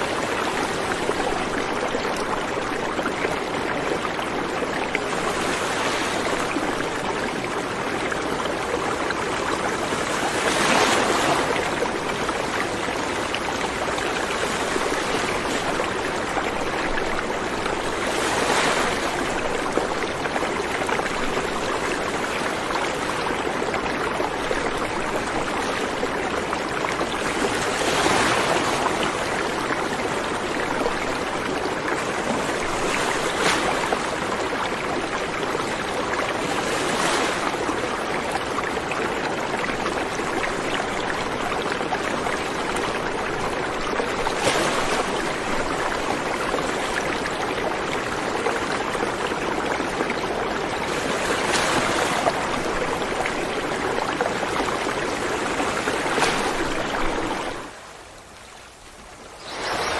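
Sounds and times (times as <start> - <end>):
river water rushing over rocks: 0.0 - 59.9
water splashing: 8.6 - 59.9.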